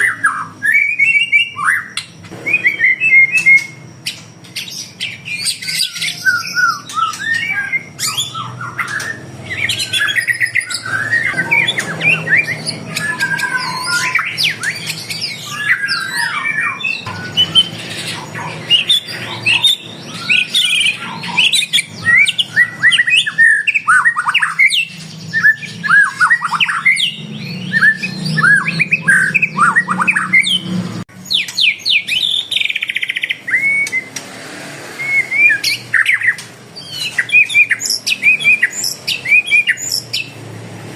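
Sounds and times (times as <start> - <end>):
songbirds chirping and whistling: 0.0 - 40.9.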